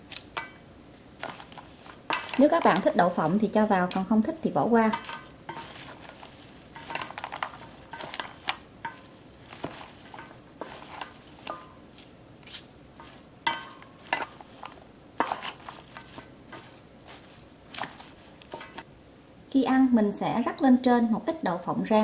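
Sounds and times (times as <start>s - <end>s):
salad leaves rustling: 0.0s - 18.9s
utensils clinking on metal bowl: 0.1s - 0.6s, 1.2s - 18.8s.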